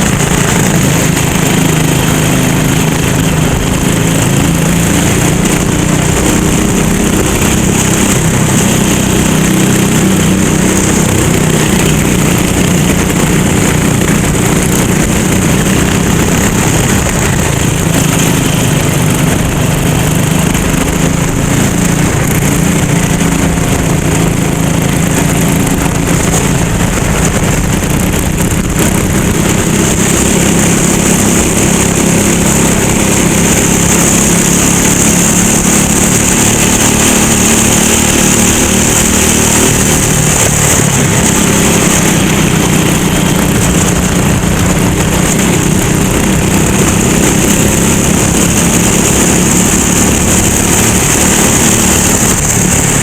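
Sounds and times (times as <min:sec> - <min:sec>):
go-kart engine running: 0:00.0 - 0:53.0.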